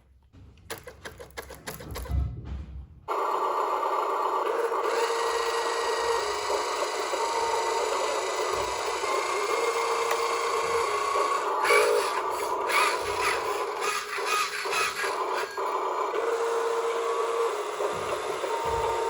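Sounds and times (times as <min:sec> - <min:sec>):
electric motors whining: 0:03.1 - 0:19.0.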